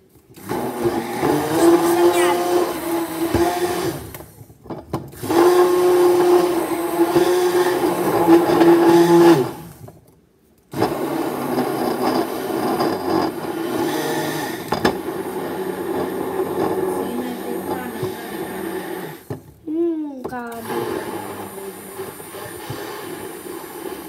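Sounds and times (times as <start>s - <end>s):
immersion blender whirring: 0.4s - 4.1s, 5.2s - 9.8s, 10.8s - 19.4s, 20.5s - 24.0s.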